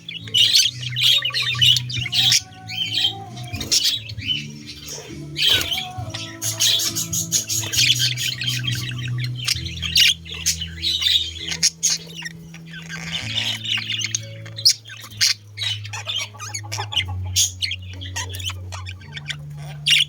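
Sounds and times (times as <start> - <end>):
budgerigars chattering and squawking: 0.0 - 20.0.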